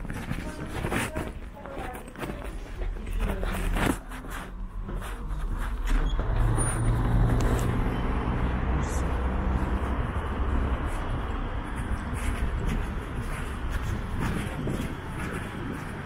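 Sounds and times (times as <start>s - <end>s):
vehicle engine running: 3.1s - 16.0s.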